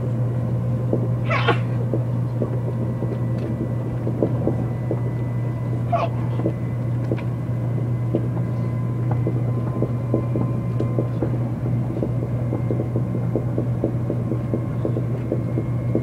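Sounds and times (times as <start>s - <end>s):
train cabin rumble and hum: 0.0s - 16.0s.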